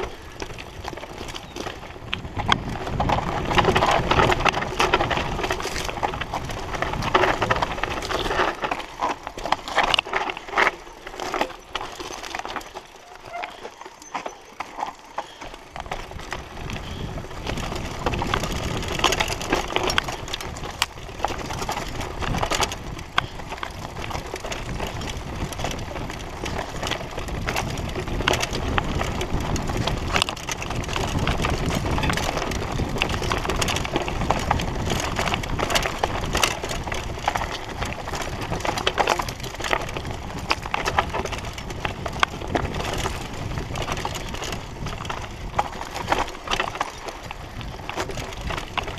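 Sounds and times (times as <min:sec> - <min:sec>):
bike and camera rattling: 0:00.0 - 0:48.9
tyres rumbling on dirt: 0:00.0 - 0:48.9.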